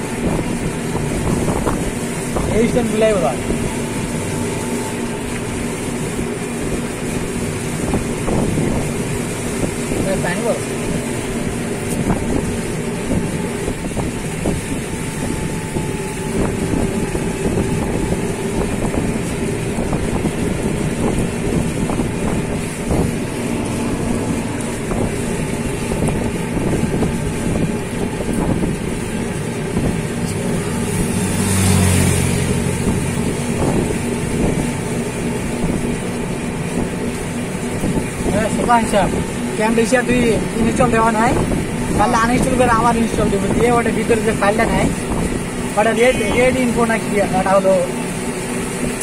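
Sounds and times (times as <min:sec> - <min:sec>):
deeper louder engine: 0:00.0 - 0:49.0
motorboat engine running: 0:00.0 - 0:49.0
wind buffeting microphone: 0:00.0 - 0:49.0.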